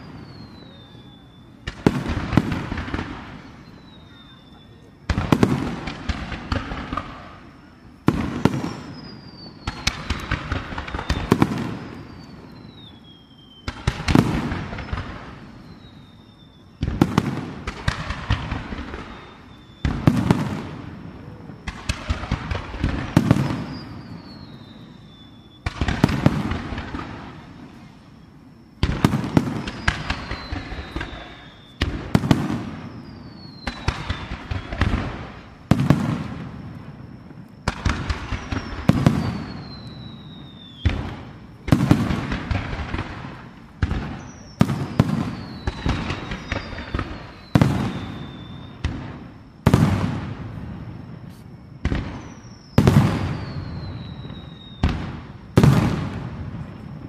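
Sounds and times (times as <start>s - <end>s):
crackling echo: 0.0s - 57.0s.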